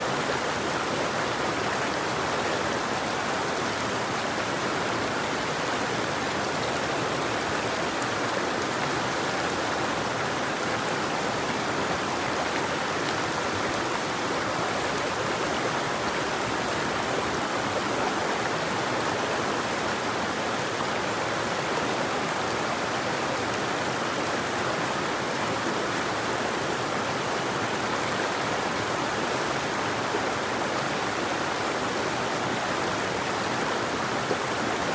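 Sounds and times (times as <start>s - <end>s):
river water flowing over rocks: 0.0s - 34.9s.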